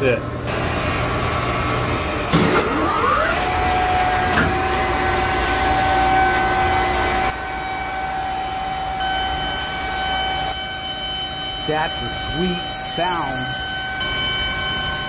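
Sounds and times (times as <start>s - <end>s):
compressor whine: 0.0s - 15.0s.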